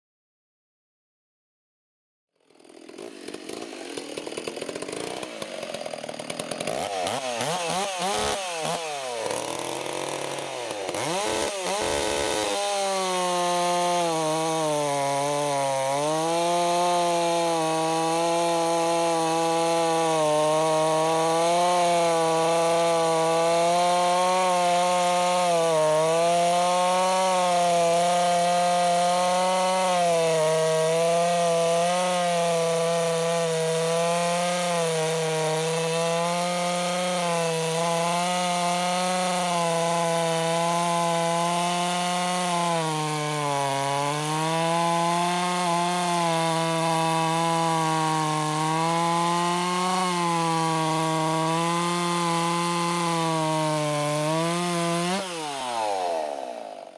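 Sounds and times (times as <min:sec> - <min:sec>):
chainsaw cutting wood: 0:02.4 - 0:56.9.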